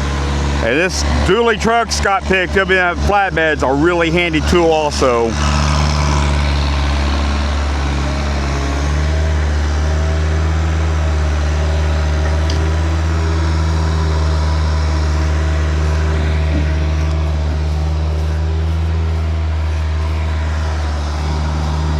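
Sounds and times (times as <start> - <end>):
vehicle engine humming: 0.0 - 21.9.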